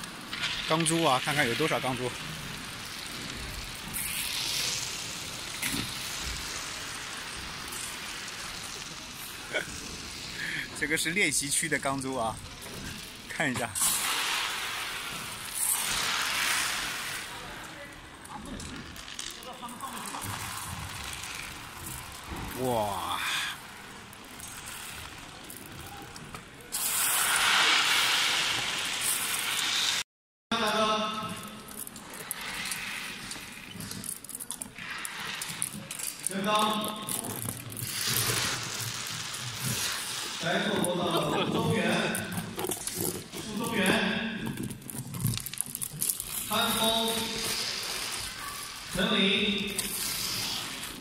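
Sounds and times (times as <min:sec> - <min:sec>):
steel balls clattering on wooden floor: 0:00.0 - 0:27.1, 0:31.2 - 0:51.0.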